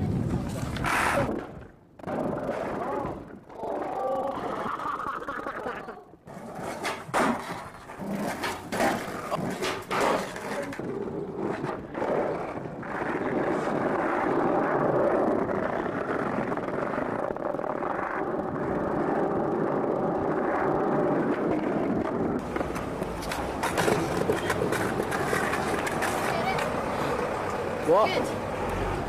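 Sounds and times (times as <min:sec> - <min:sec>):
skateboard wheels rolling on asphalt: 0:00.0 - 0:29.0.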